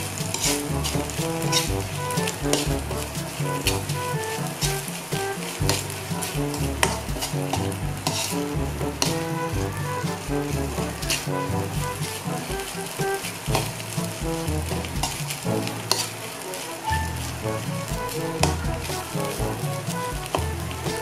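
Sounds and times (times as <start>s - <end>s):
background music: 0.0s - 21.0s
food sizzling in a wok: 0.0s - 21.0s
metal spatula scraping pan: 0.0s - 21.0s.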